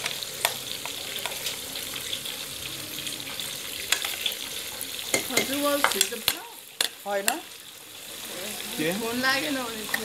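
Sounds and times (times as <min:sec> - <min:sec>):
pork sizzling in a pot: 0:00.0 - 0:10.0.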